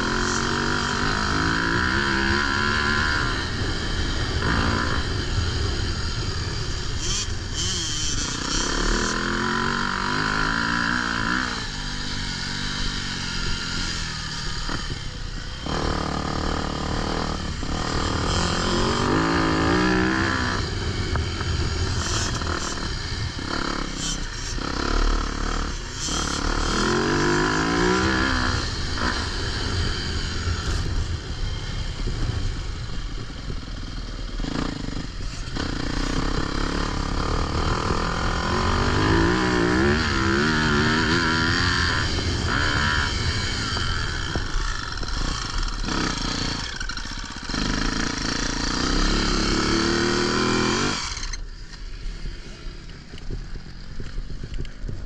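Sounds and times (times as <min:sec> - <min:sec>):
dirt bike engine revving: 0:00.0 - 0:54.9
wind and riding noise: 0:00.0 - 0:55.0.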